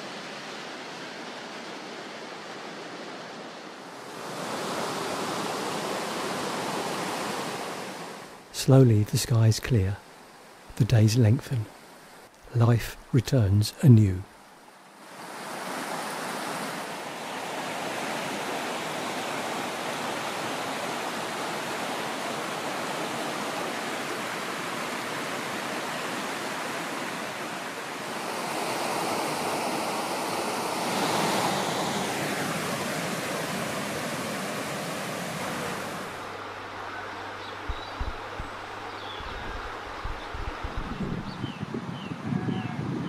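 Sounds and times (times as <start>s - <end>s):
river rushing over boulders: 0.0s - 8.5s, 14.6s - 41.3s.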